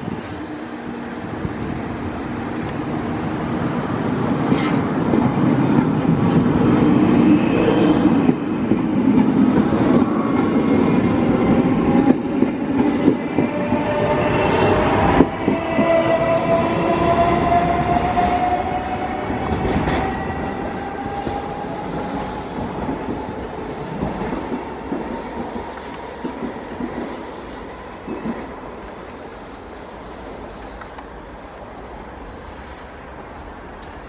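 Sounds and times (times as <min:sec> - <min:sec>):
train passing: 0:00.0 - 0:34.0.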